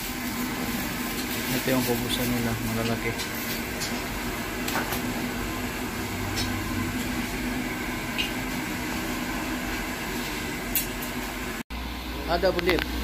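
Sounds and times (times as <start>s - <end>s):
bakery equipment humming: 0.0s - 13.0s.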